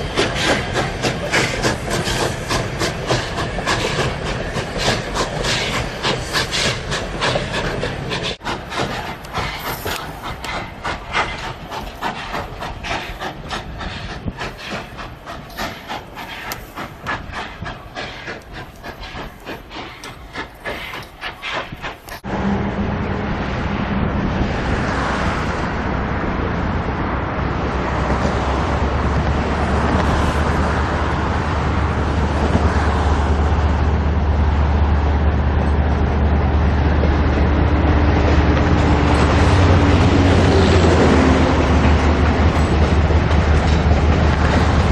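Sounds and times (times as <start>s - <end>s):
low train rumble with hum: 0.0s - 44.9s
train clacking on rails: 0.0s - 44.9s.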